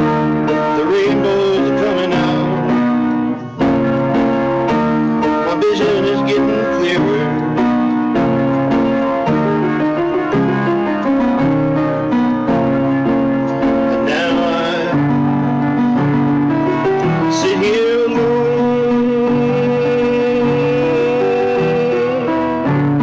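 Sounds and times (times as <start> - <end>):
guitar: 0.0 - 23.0
held keyboard chords: 0.0 - 23.0.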